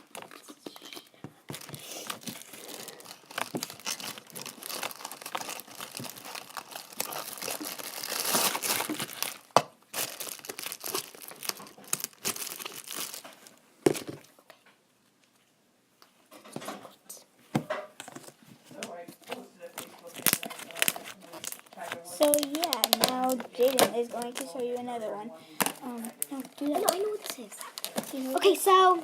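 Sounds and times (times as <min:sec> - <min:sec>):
slime crackling and crinkling: 0:00.0 - 0:14.2, 0:19.0 - 0:29.0.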